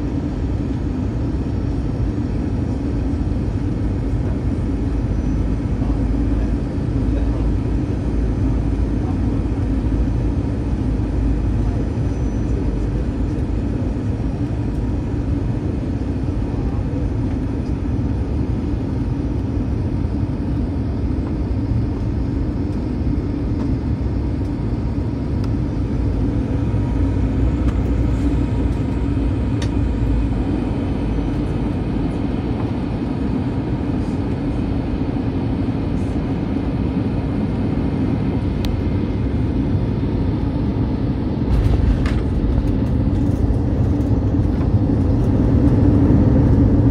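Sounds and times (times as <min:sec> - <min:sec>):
airplane engines roaring in cabin: 0:00.0 - 0:46.9.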